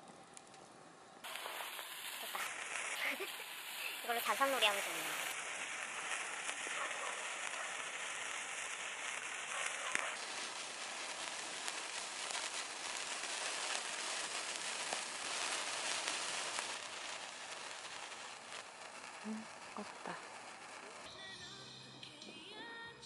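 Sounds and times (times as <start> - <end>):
campfire crackling: 0.0 - 22.9
sparklers fizzing: 1.2 - 23.0.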